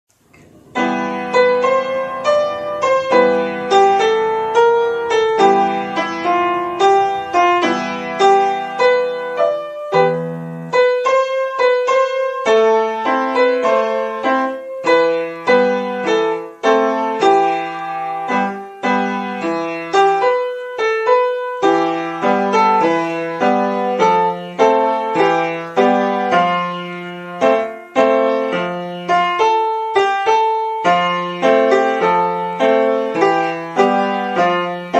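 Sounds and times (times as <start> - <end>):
piano music: 0.2 - 34.9.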